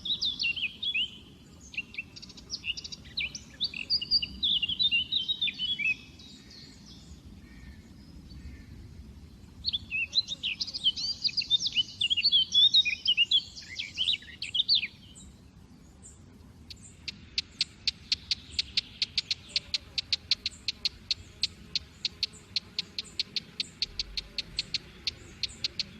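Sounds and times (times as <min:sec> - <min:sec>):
songbirds twittering: 0:00.0 - 0:25.9.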